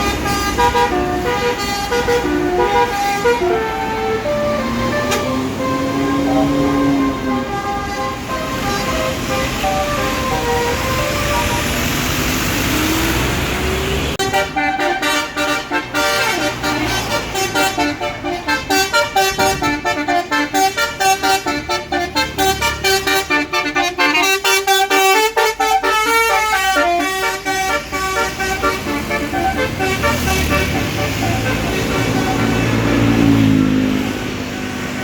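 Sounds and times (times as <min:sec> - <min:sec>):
bus horn playing melody: 0:00.0 - 0:35.0.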